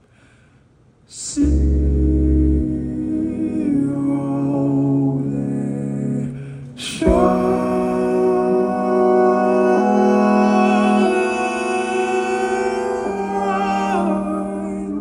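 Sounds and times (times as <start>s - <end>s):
man singing a long note: 1.1s - 15.0s
keyboard chords with deep bass: 1.4s - 15.0s.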